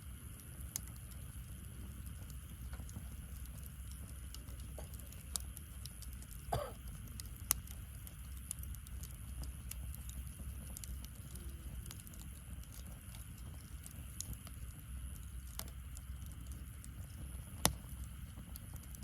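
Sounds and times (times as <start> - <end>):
low steady rumble: 0.0 - 19.0
wood fire crackling and popping: 0.0 - 19.0.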